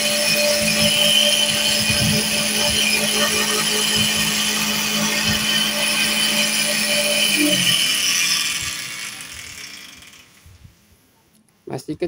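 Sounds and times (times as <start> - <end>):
cotton candy machine humming: 0.0 - 10.6.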